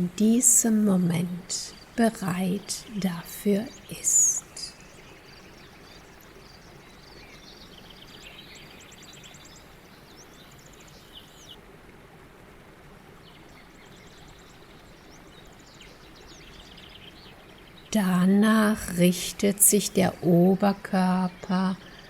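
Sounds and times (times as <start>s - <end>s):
songbirds twittering: 0.0s - 11.7s, 12.9s - 22.0s
steady low hiss: 0.0s - 22.0s.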